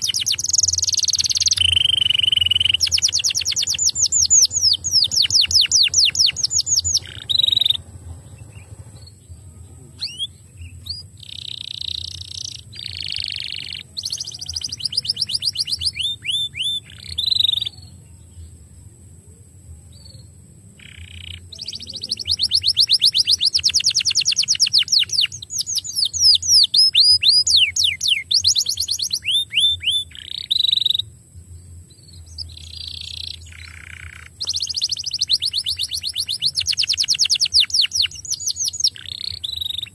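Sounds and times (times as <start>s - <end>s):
canary singing: 0.0s - 18.6s, 19.8s - 39.9s.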